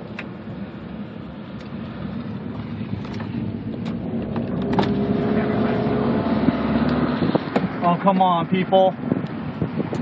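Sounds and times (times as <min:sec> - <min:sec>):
steady engine tone: 0:00.0 - 0:09.1
car engine: 0:00.0 - 0:10.0.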